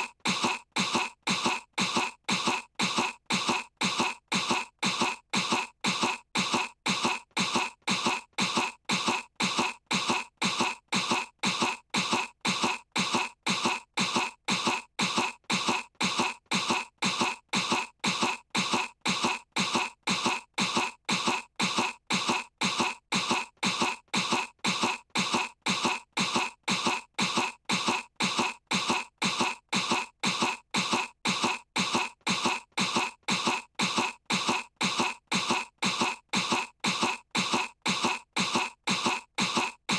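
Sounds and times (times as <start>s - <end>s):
cartoon girl fake coughing: 0.0s - 39.9s.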